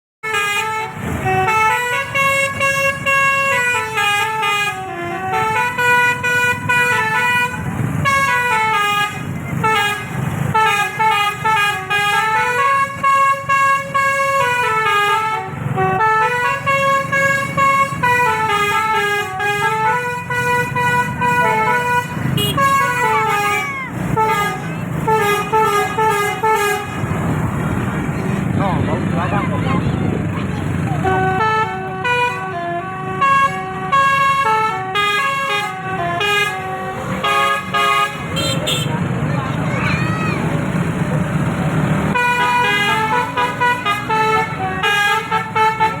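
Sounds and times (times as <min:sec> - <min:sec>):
bus air horn melody: 0:00.2 - 0:27.3, 0:30.7 - 0:39.1, 0:42.1 - 0:46.0
engine and traffic rumble: 0:00.2 - 0:46.0.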